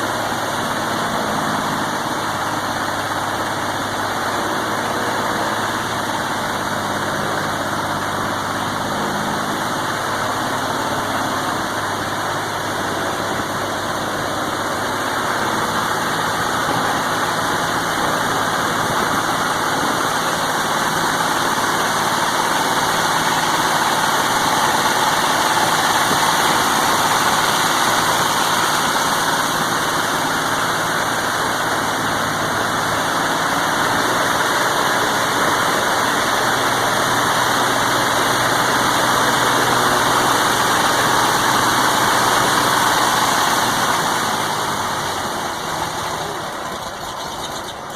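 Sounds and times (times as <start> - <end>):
aircraft engine running: 0.0 - 47.9.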